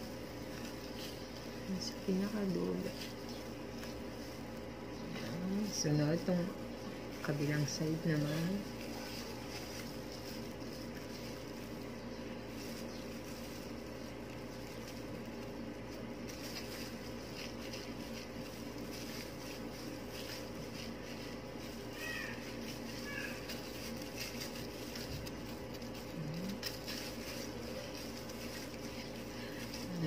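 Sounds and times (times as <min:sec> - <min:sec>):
brush rustling through hair: 0:00.0 - 0:30.0
low electrical hum: 0:00.0 - 0:30.0.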